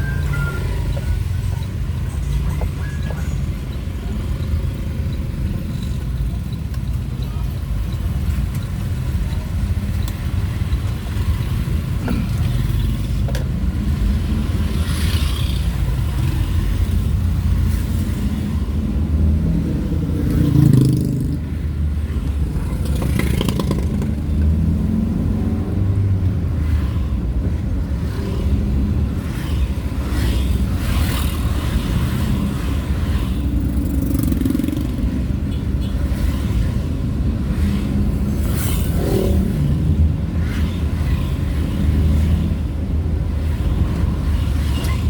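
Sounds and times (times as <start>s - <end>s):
road and wind noise: 0.0s - 45.0s
vehicle engine rumble: 0.0s - 45.0s.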